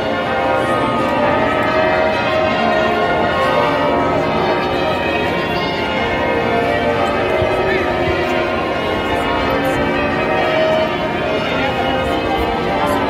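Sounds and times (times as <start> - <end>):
church bells ringing a peal: 0.0 - 13.0.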